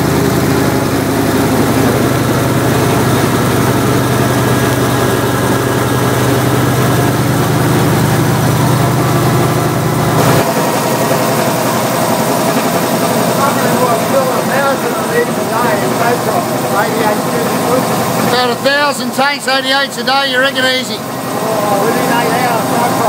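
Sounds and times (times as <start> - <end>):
air compressor engine drone: 0.0 - 23.0.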